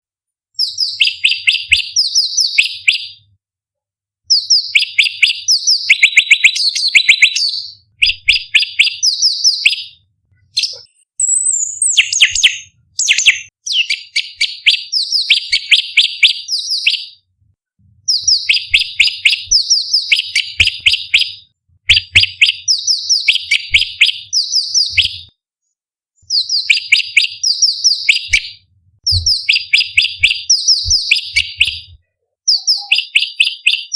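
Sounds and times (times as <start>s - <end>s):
bird singing high chirps: 0.6s - 3.3s, 4.3s - 17.3s, 18.0s - 25.4s, 26.2s - 33.9s.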